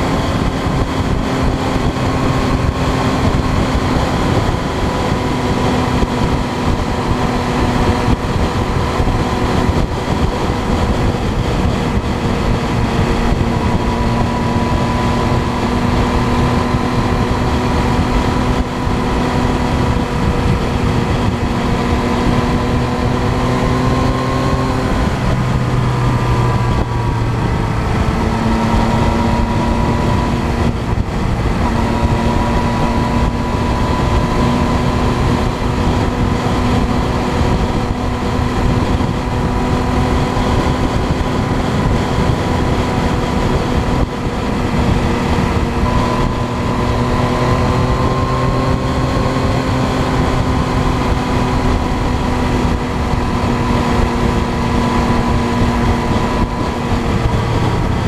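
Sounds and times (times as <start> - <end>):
road noise: 0.0 - 58.0
vehicle engine running: 0.0 - 58.0
wind noise: 0.0 - 58.0.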